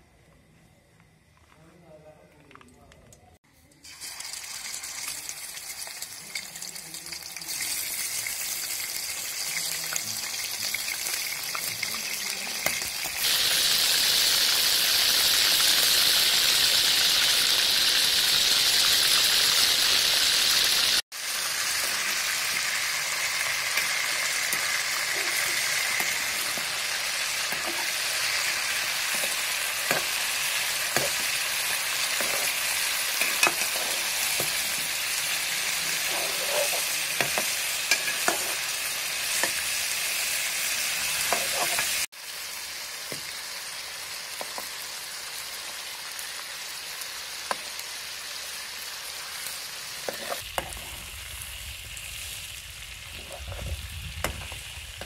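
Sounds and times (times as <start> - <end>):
chicken sizzling in hot oil: 3.7 - 55.0.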